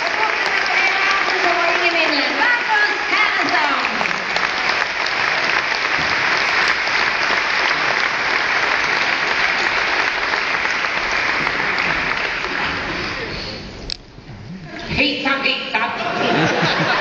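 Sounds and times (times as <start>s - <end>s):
audience applauding loudly: 0.0s - 13.8s.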